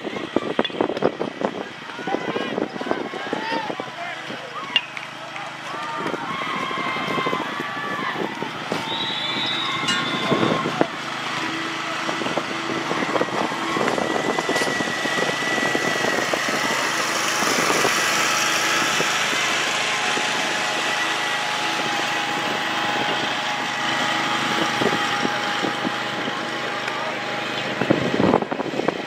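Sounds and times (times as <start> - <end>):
engine drone with whine: 0.0 - 29.0.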